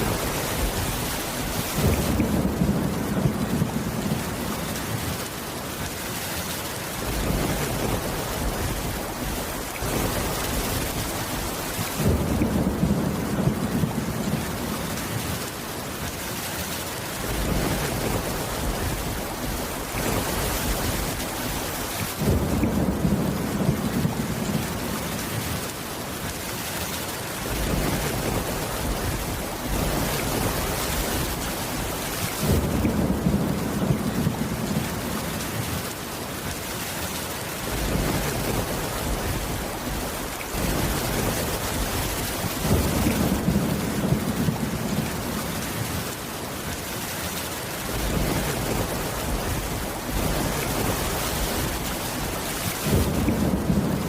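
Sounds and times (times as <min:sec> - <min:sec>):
low thunder rumbles: 0:00.0 - 0:05.4, 0:07.0 - 0:15.5, 0:17.2 - 0:25.7, 0:27.4 - 0:36.0, 0:37.6 - 0:46.2, 0:47.8 - 0:54.0
heavy rain: 0:00.0 - 0:54.0.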